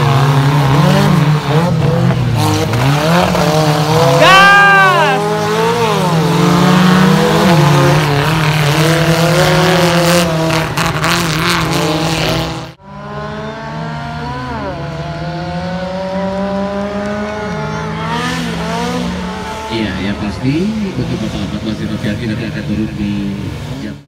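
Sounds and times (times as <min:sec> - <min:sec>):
off-road engines revving: 0:00.0 - 0:24.0.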